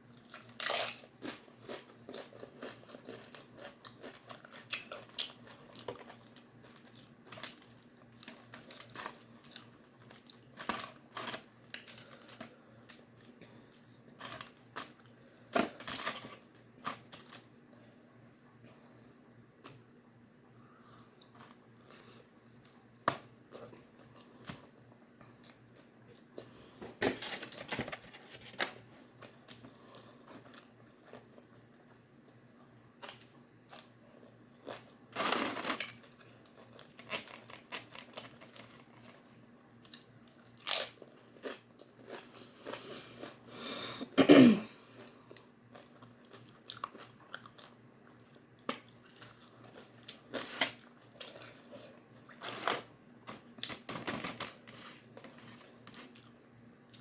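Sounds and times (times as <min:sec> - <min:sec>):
chewing and crunching food: 0:00.0 - 0:18.0, 0:18.6 - 0:43.6, 0:44.7 - 0:57.0.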